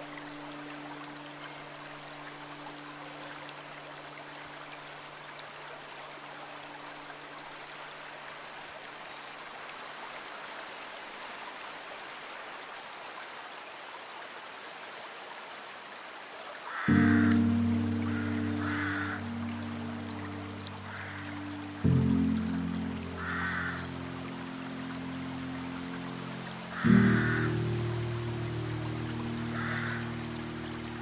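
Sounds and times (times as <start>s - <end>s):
flowing stream rushing: 0.0s - 31.0s.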